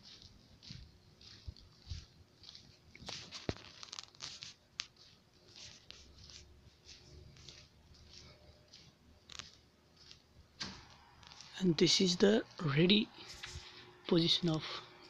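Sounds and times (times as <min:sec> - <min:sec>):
faint scuffing footsteps: 0:00.0 - 0:14.6.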